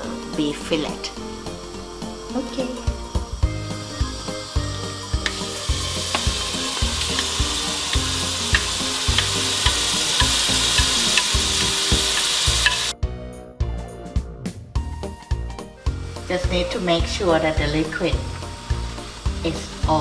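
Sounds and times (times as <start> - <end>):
paste sizzling in a frying pan: 0.0 - 12.9, 15.7 - 20.0
background music with steady beat: 0.0 - 20.0.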